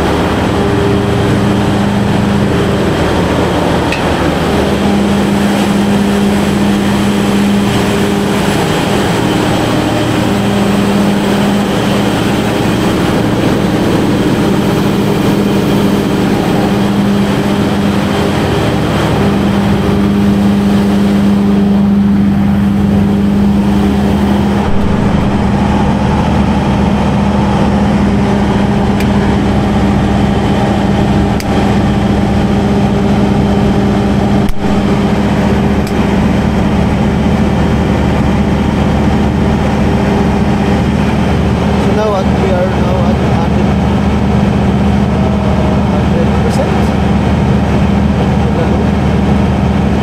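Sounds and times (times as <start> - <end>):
diesel generator running: 0.0 - 50.0.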